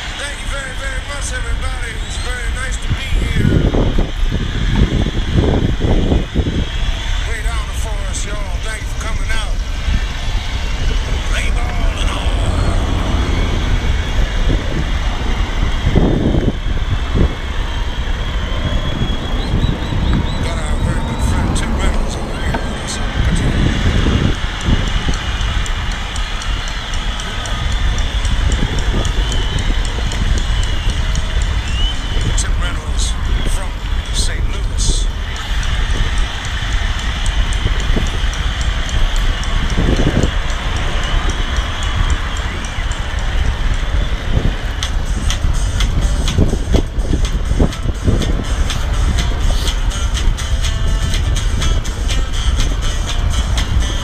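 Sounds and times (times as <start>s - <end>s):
road noise: 0.0s - 54.0s
wind rumbling on microphone: 0.0s - 54.0s.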